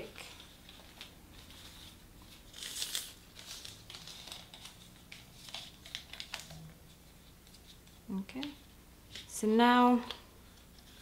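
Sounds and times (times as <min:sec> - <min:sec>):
newspaper rustling and crinkling: 0:00.0 - 0:11.0.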